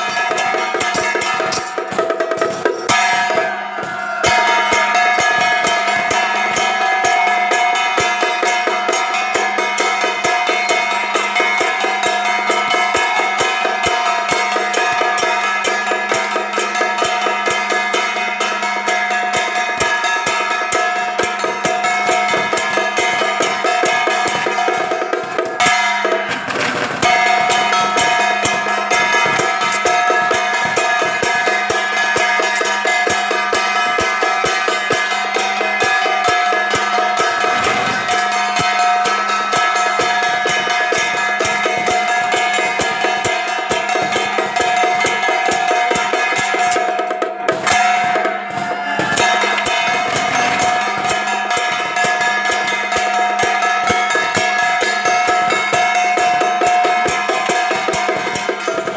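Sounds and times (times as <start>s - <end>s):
drum beats: 0.0s - 58.9s
wood block beats: 0.0s - 58.9s.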